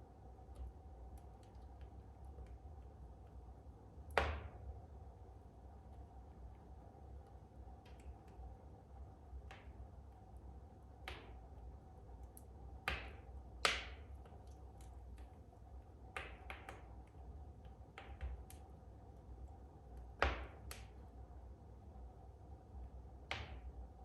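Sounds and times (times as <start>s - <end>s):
wood fire crackling and popping: 0.2s - 4.8s, 5.8s - 21.3s, 23.1s - 24.0s.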